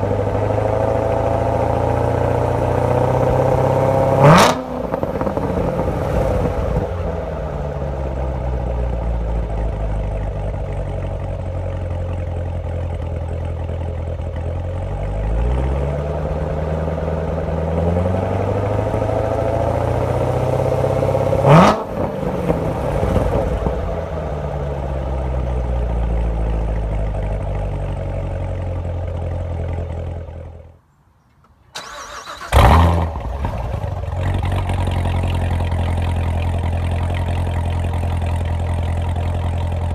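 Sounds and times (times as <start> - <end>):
sports car engine idling and revving: 0.0 - 30.8, 32.5 - 39.9.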